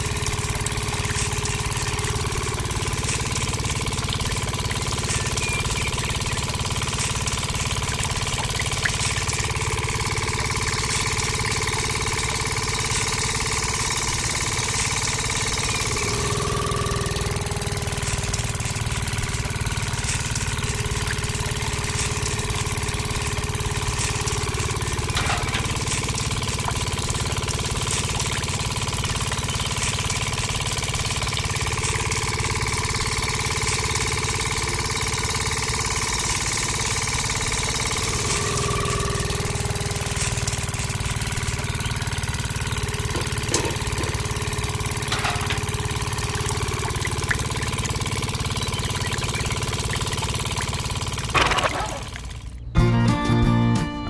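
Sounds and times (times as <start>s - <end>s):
small motor running: 0.0s - 52.8s.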